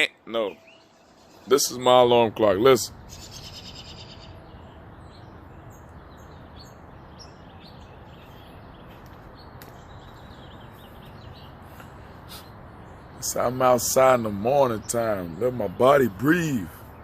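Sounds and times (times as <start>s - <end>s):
birds singing: 0.0s - 17.0s
low outdoor background hum: 0.0s - 17.0s.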